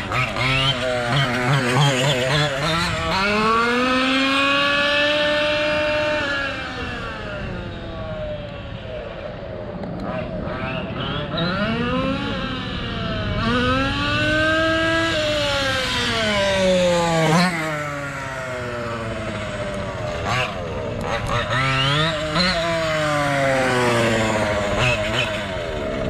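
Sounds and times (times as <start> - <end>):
rc car engine revving: 0.0 - 26.0.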